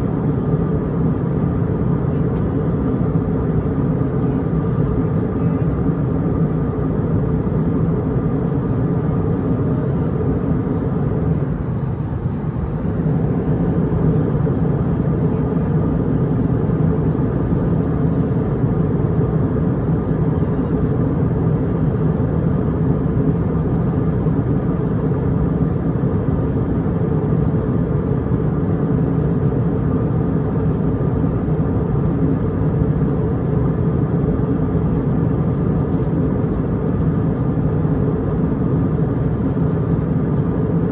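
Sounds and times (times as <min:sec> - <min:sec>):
airliner cabin engine roar: 0:00.0 - 0:40.9
constant humming tones: 0:00.0 - 0:40.9.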